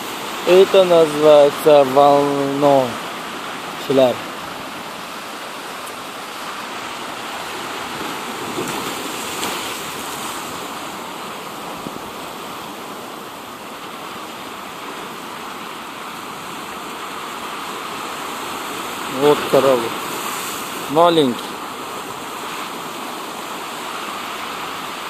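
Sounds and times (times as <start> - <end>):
sea waves washing onto shore: 0.0 - 25.0.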